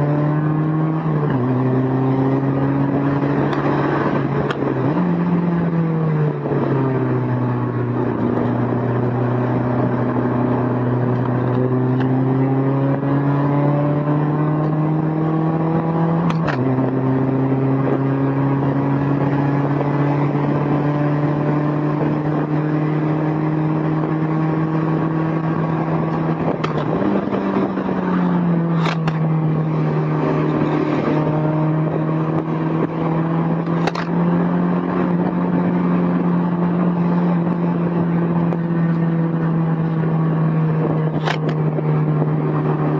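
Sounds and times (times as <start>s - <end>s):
car engine revving: 0.0s - 42.9s
wind and road noise: 0.0s - 42.9s.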